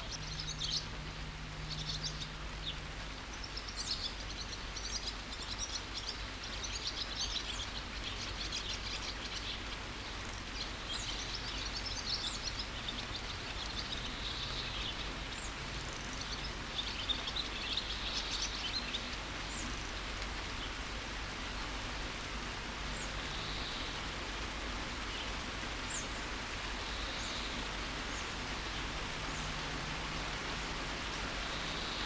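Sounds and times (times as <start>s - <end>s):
small birds chirping: 0.0s - 32.0s
steady rain: 0.0s - 32.0s.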